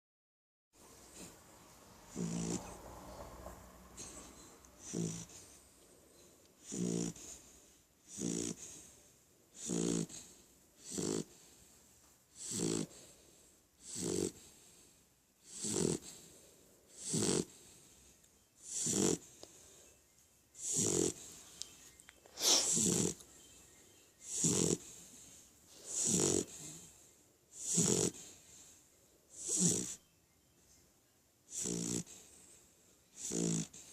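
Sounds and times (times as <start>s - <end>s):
puppy snoring: 1.0s - 1.4s, 2.0s - 19.9s, 20.5s - 30.1s, 31.5s - 33.9s.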